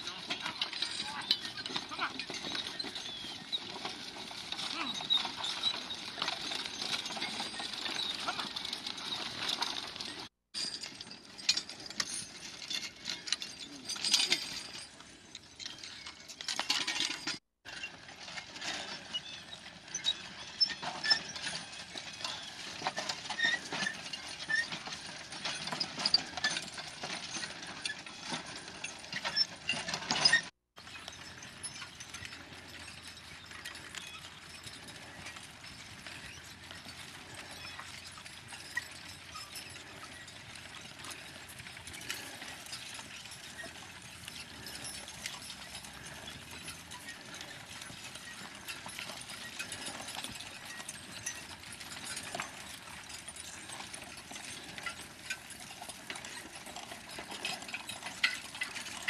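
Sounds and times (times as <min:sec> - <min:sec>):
harness chains clinking: 0:00.0 - 0:59.0
hoof steps: 0:00.0 - 0:59.0.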